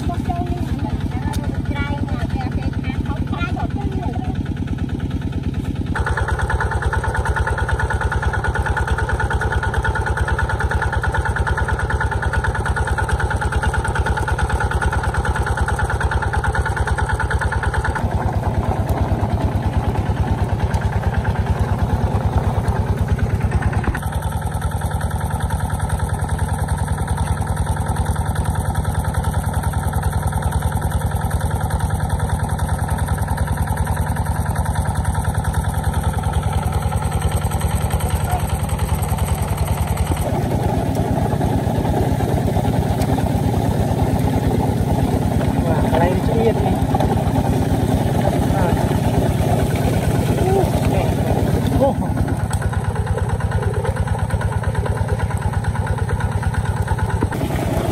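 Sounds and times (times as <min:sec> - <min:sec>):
water pump engine running: 0:00.0 - 0:57.9.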